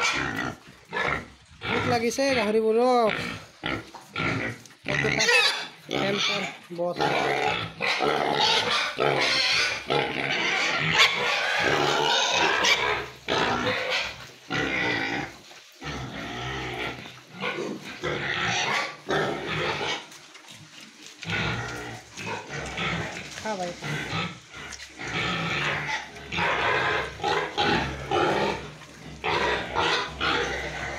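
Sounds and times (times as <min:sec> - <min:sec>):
pigs squealing and grunting: 0:00.0 - 0:30.9.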